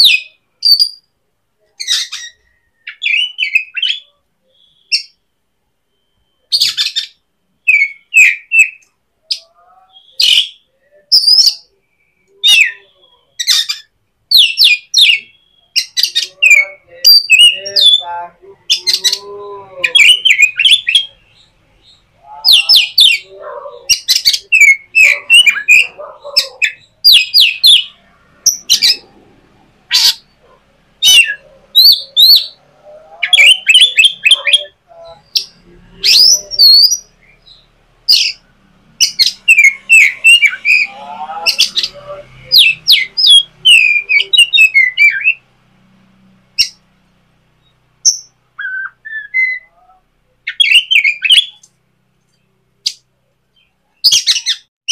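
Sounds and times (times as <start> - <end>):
bird chirping and squawking: 0.0 - 1.1, 1.7 - 5.2, 5.9 - 45.6, 46.5 - 51.7, 52.8 - 54.9.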